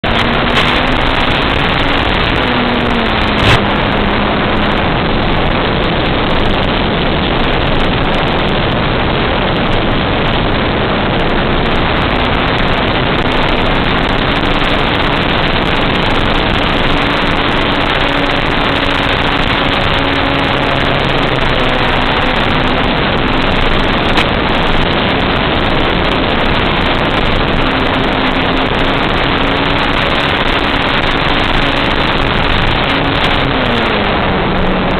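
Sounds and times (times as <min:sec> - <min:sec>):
loud rushing wind noise: 0:00.0 - 0:34.9
motor and propeller hum: 0:00.0 - 0:34.9.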